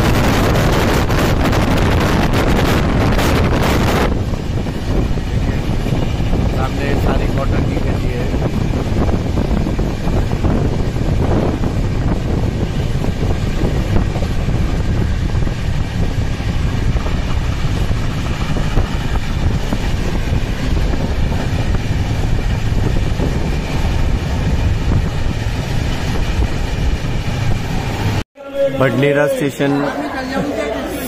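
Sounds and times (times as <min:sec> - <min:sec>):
wind on microphone: 0:00.0 - 0:28.2
train carriages rumbling: 0:00.0 - 0:31.0.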